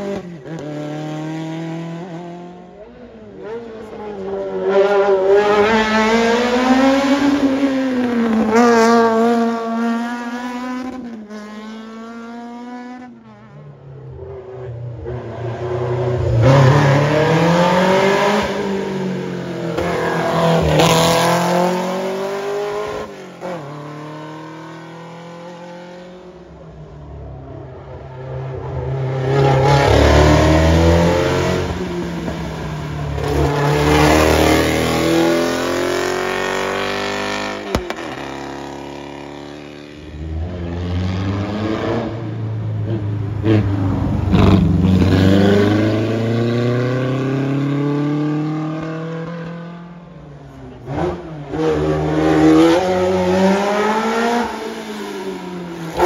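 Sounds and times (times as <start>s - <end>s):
racing car engines revving past: 0.0s - 13.5s, 14.1s - 56.0s.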